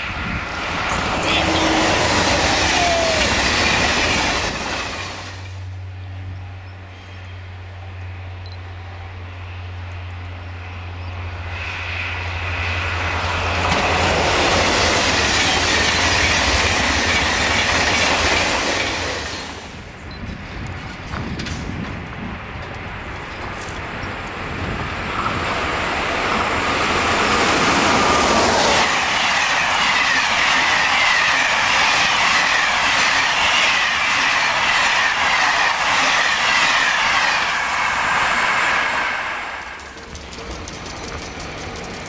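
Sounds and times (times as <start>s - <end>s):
high-speed train rushing past: 0.0s - 42.0s.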